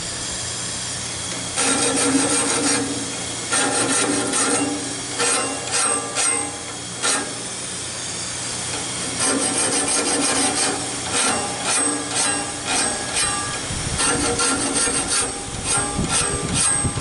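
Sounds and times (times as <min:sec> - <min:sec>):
steady hum: 0:00.0 - 0:17.0
file rasping saw teeth: 0:01.6 - 0:07.4, 0:09.1 - 0:17.0.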